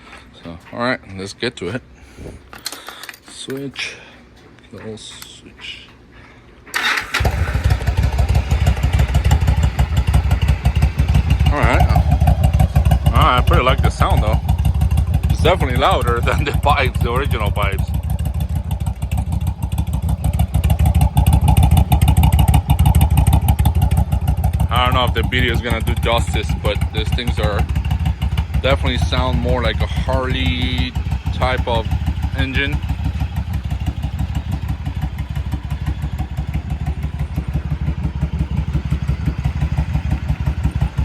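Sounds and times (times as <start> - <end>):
motorcycle engine idling: 6.7 - 41.0.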